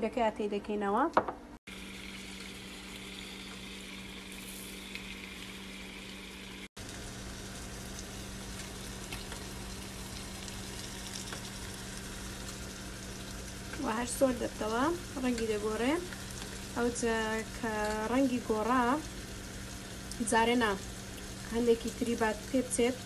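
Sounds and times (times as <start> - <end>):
chicken sizzling in a pan: 1.7 - 23.0.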